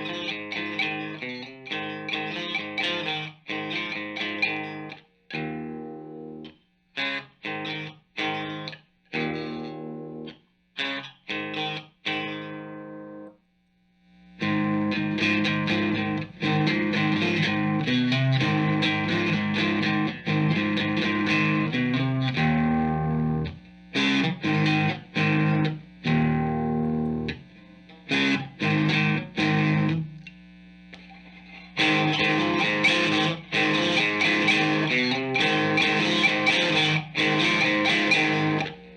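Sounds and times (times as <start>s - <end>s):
distorted electric guitar: 0.0s - 13.3s, 14.0s - 38.9s.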